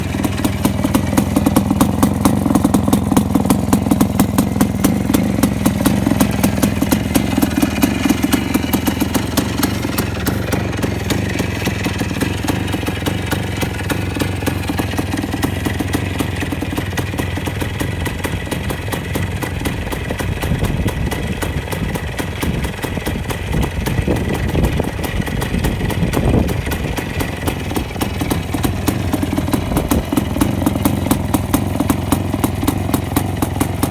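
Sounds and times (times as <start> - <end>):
two-stroke motorcycle engine running: 0.0 - 33.9.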